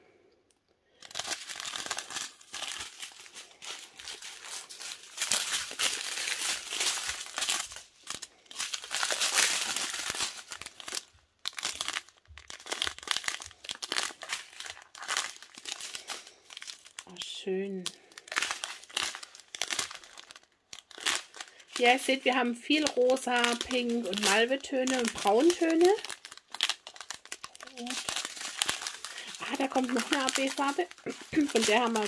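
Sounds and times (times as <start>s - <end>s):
plastic bags crinkling: 0.8s - 32.0s.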